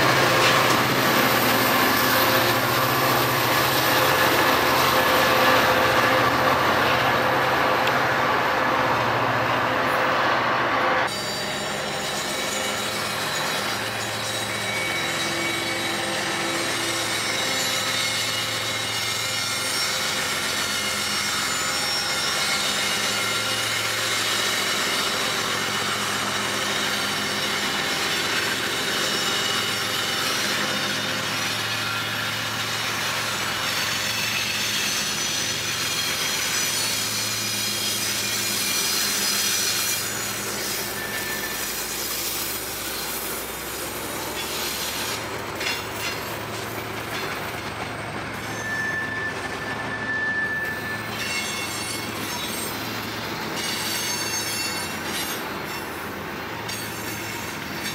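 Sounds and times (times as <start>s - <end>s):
train rumbling on rails: 0.0s - 57.9s
wheel squeal: 11.0s - 57.9s.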